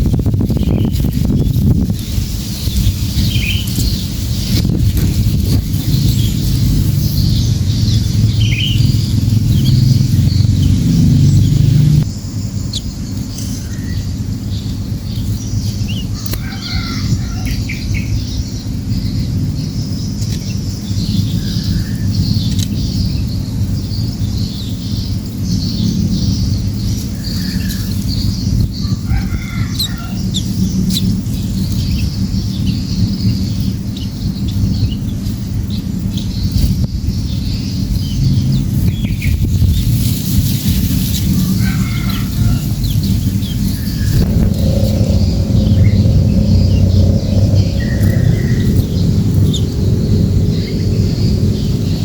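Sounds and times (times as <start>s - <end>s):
birds chirping: 0.0s - 52.0s
steady low rumble: 0.0s - 52.0s.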